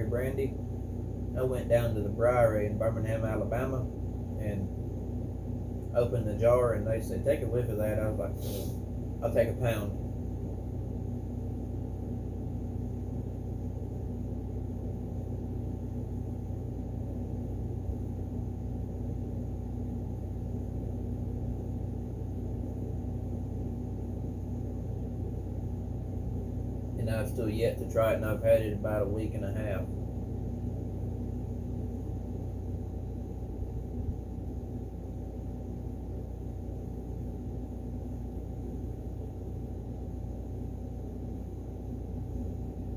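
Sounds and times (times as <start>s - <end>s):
steady machine hum: 0.0s - 42.9s.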